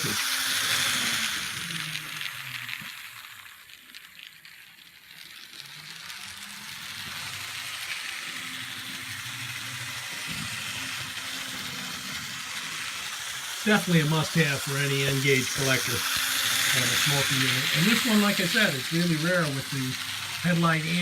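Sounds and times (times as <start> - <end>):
small electric motor hum: 0.0 - 21.0
wheels hissing on rail: 0.0 - 21.0.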